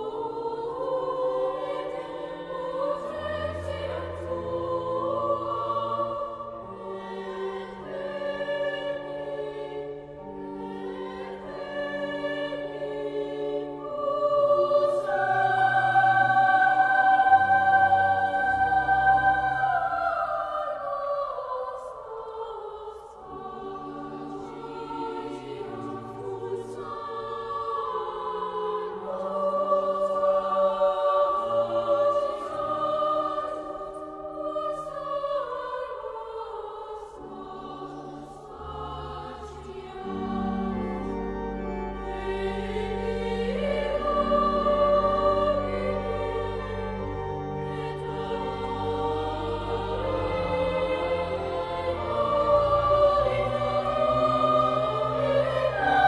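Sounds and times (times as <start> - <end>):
choral singing: 0.0 - 56.0.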